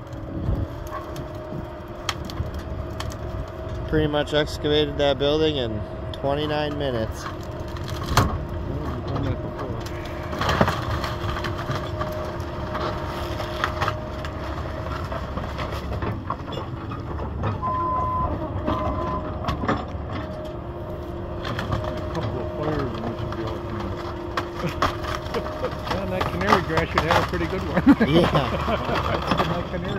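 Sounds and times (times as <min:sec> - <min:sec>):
wood crushing and cracking: 0:00.0 - 0:17.6, 0:18.3 - 0:29.9
excavator whining: 0:00.0 - 0:29.9.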